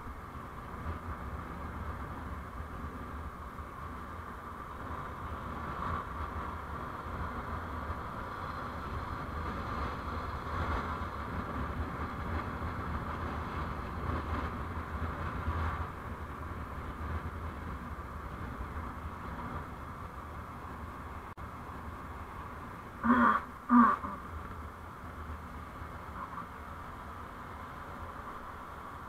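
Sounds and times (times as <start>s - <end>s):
engine and tyre rumble: 0.0s - 29.0s
wind and road hiss: 0.0s - 29.0s.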